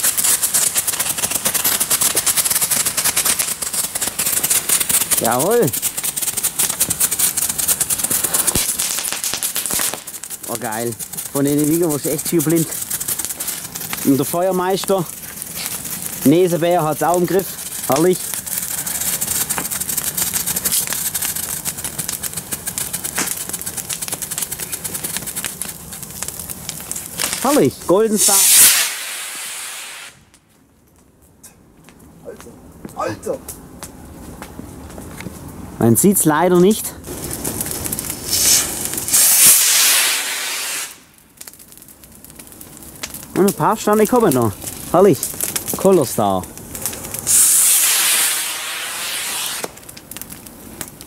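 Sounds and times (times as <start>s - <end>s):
firework crackling with sharp pops: 0.0s - 51.0s.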